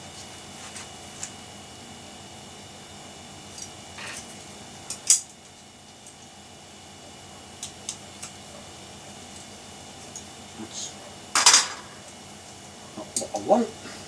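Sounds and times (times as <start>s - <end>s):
desktop computer hum: 0.0s - 14.0s.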